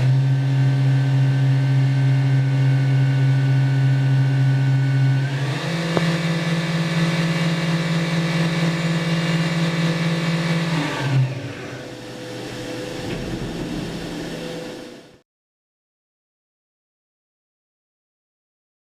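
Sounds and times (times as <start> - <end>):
milling machine whine: 0.0 - 15.2.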